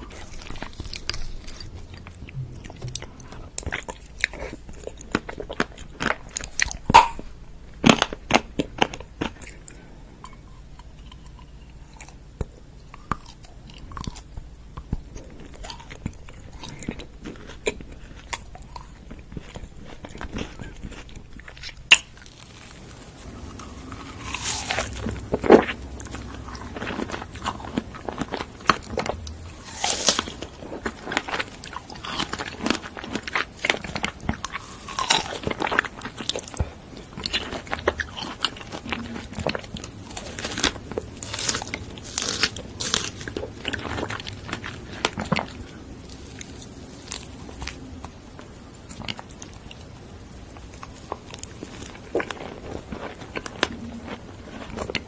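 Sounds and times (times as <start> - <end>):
crunchy bites and chewing: 0.0 - 49.9, 50.5 - 55.0.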